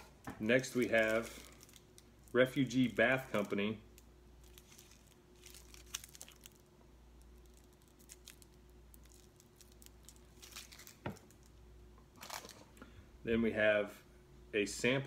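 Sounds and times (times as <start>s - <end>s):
plastic wrap crinkling: 0.0s - 12.8s.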